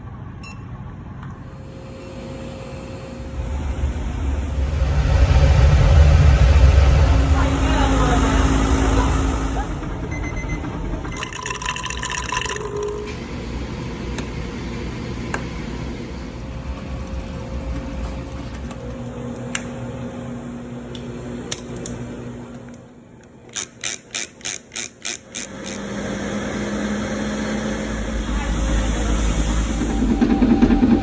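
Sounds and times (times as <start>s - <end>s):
laboratory equipment humming: 0.0s - 31.0s.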